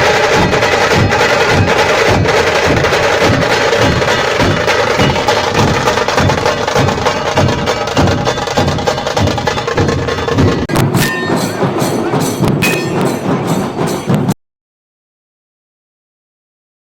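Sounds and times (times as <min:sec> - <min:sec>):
barrel drums beaten fast: 0:00.0 - 0:14.4.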